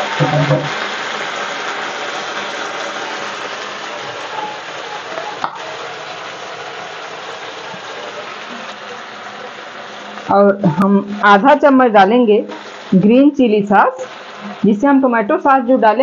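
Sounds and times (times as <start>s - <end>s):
vegetables sizzling in a wok: 0.0s - 16.0s.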